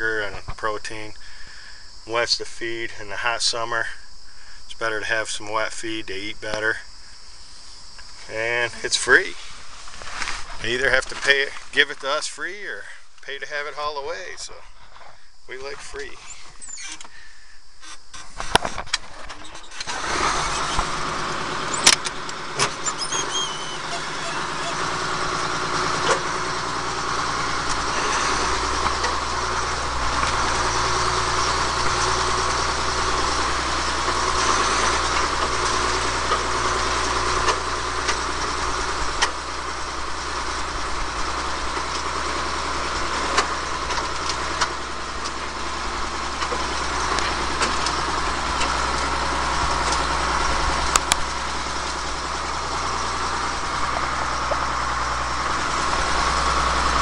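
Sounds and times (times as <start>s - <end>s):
tractor engine running: 0.0s - 17.1s, 18.2s - 57.0s.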